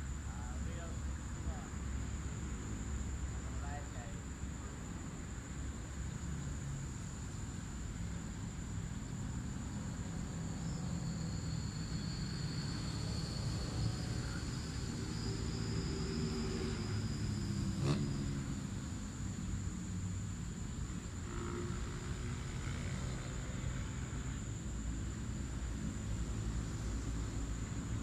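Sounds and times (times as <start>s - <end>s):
distant traffic rumble: 0.0s - 28.0s
high insect buzz: 0.0s - 28.0s.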